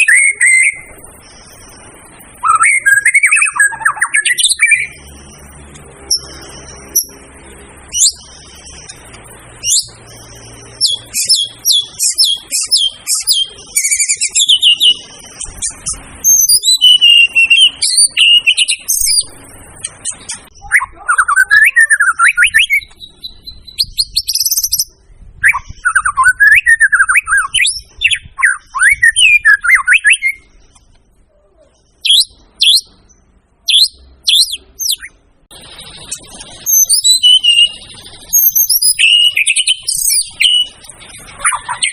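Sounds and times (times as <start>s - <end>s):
songbird singing varied song: 0.0s - 31.0s, 31.8s - 41.9s.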